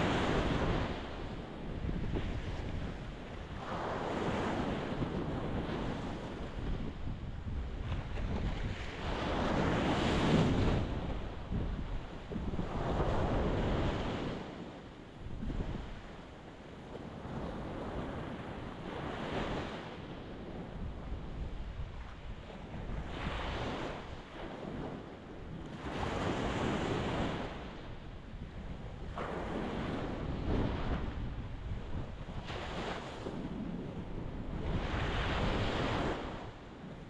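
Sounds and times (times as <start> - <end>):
low rumble of surf: 0.0 - 37.0.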